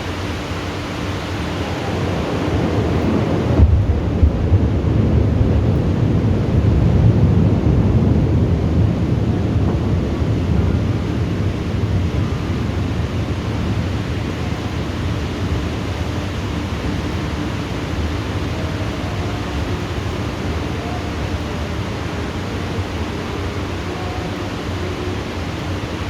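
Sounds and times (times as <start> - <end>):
heavy rain hiss: 0.0 - 26.0
deep thunder rumble: 1.4 - 26.0.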